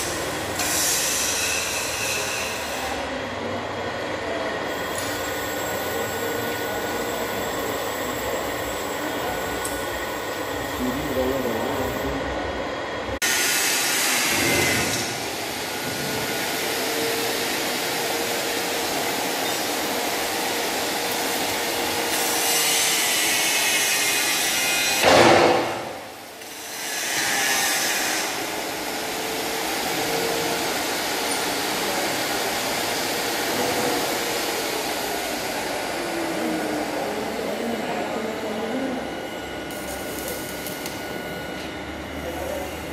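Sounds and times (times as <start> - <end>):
workshop machinery noise: 0.0 - 42.9.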